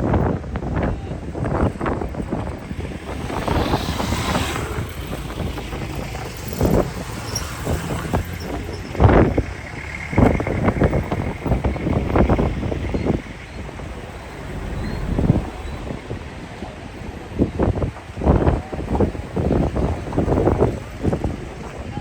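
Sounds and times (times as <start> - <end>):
strong wind buffeting microphone: 0.0 - 22.0.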